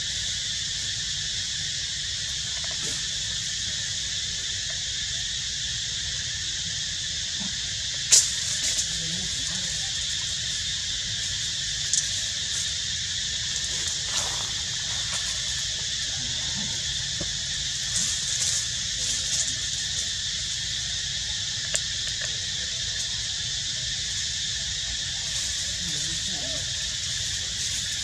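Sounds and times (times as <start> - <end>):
insect chorus droning: 0.0 - 28.0.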